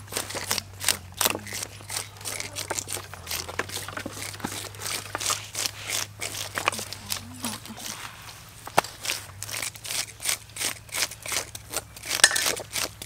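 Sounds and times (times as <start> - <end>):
knives scraping fish scales: 0.1 - 13.0.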